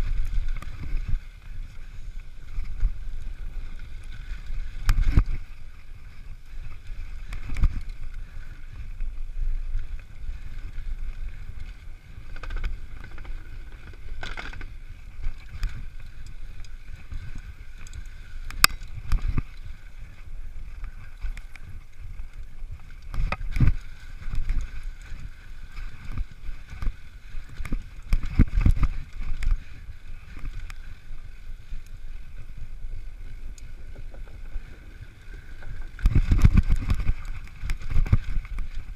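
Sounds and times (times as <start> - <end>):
bike knocking and rattling: 0.0 - 38.9
wind noise: 0.0 - 38.9.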